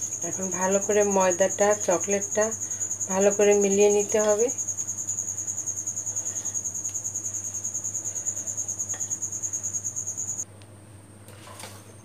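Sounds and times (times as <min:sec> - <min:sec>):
cricket trilling: 0:00.0 - 0:10.4.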